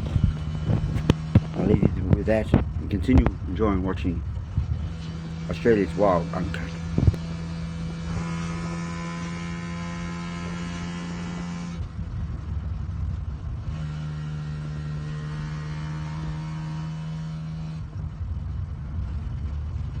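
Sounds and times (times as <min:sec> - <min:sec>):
van engine droning: 0:00.0 - 0:20.0.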